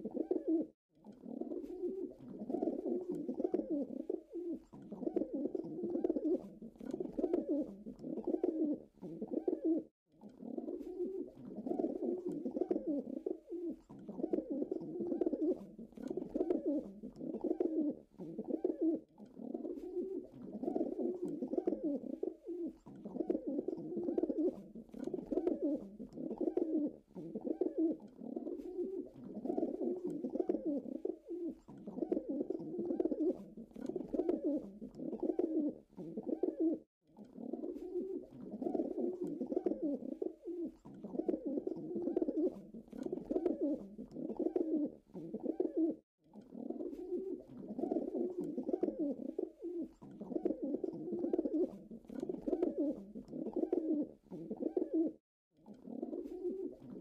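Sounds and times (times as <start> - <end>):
pigeons cooing: 0.0 - 57.0.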